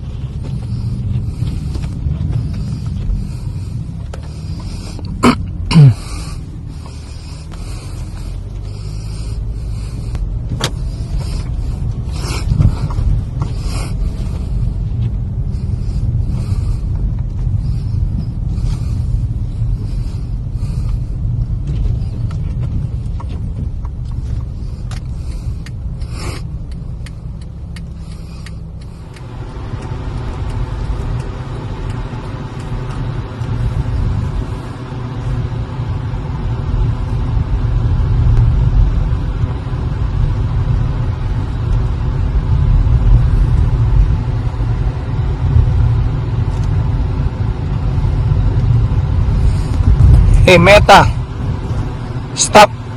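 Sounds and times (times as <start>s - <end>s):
car rumble inside car: 0.0s - 52.9s
steady multi-tone hum: 0.0s - 52.9s.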